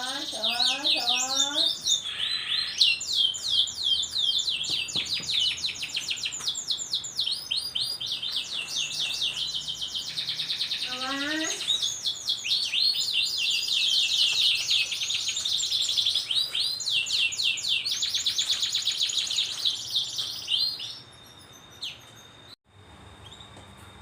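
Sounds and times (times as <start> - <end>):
canary singing chirps and trills: 0.0 - 22.6, 23.2 - 23.6.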